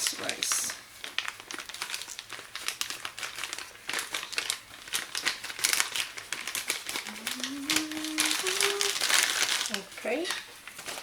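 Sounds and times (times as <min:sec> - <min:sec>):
flour bag crinkling: 0:00.0 - 0:11.0.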